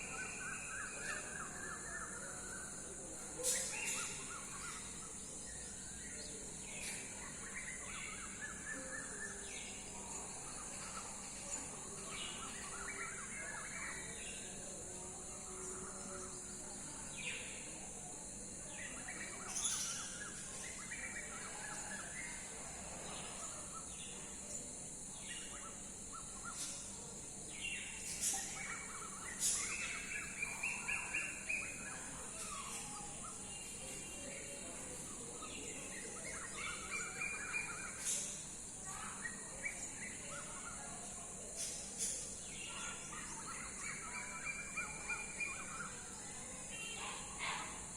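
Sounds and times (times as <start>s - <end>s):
steady high-pitched hiss: 0.0s - 47.9s
wild birds chirping and trilling: 0.0s - 47.9s.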